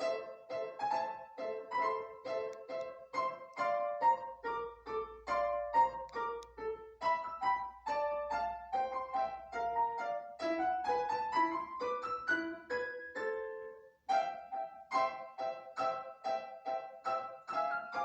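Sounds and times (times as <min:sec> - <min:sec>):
solo piano melody: 0:00.0 - 0:18.0.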